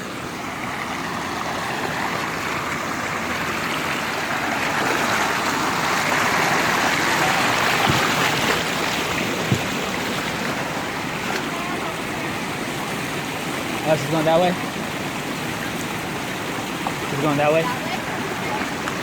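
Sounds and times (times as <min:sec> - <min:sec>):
water rushing down creek: 0:00.0 - 0:19.0.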